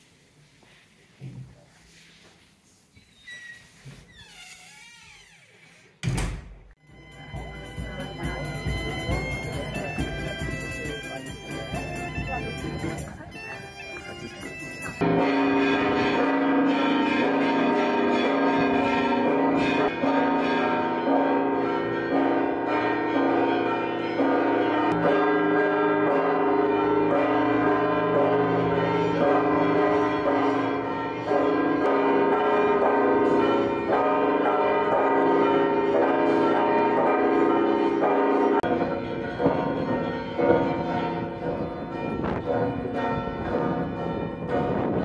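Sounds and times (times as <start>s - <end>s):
church bells pealing: 6.8s - 45.0s.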